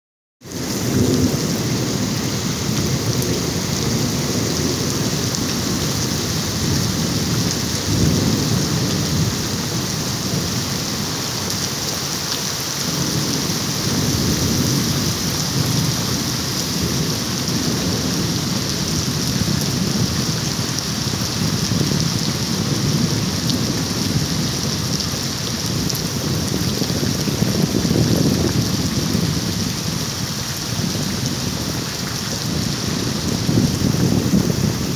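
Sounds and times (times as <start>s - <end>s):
heavy rain pouring: 0.4s - 34.9s.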